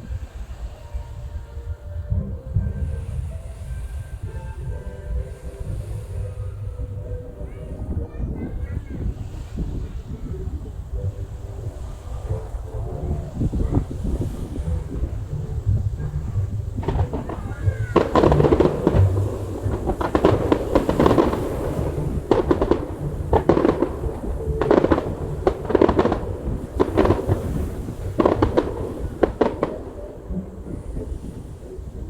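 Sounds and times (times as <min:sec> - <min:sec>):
fireworks bursting and crackling: 0:05.1 - 0:32.0.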